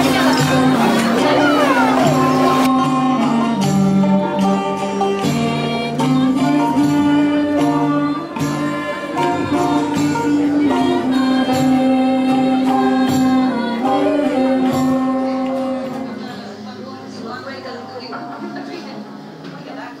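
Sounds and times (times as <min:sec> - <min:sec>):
frame drum beat: 0:00.0 - 0:16.3
voices singing along: 0:00.0 - 0:17.1
bouzouki and oud: 0:00.0 - 0:17.3.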